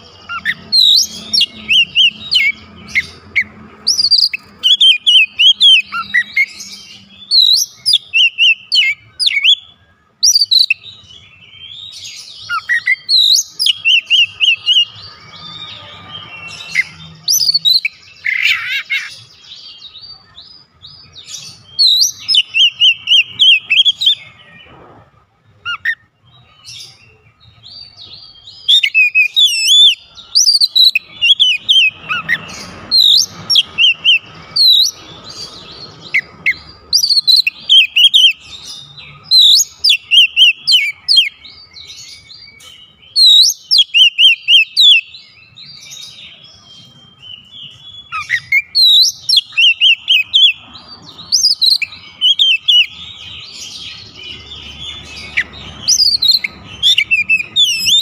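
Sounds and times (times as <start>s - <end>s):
bird singing whistled phrases: 0.0s - 20.3s, 21.0s - 24.6s, 27.9s - 35.0s, 36.1s - 58.0s.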